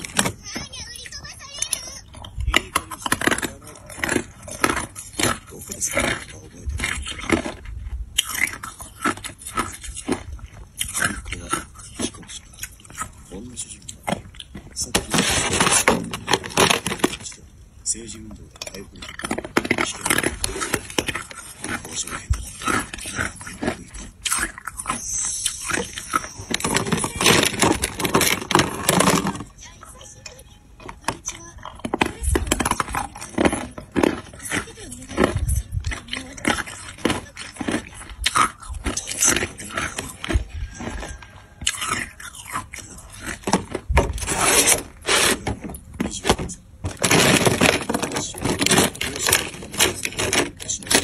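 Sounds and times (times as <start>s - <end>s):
ice crunching in mouth: 0.0s - 29.6s, 31.0s - 51.0s.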